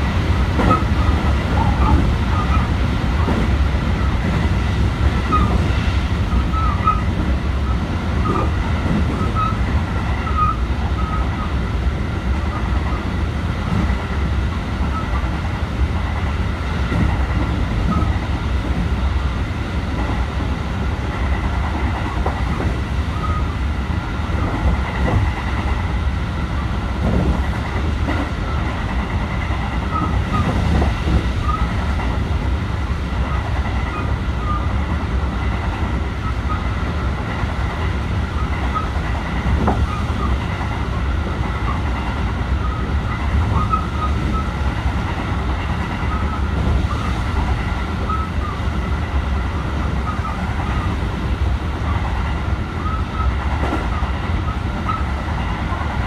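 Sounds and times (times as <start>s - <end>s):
train interior low rumble: 0.0s - 56.0s.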